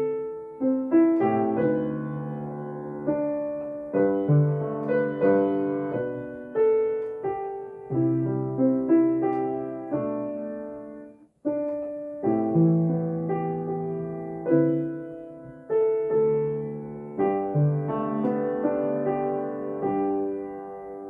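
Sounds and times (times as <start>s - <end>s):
slow jazz piano chords: 0.0s - 21.0s.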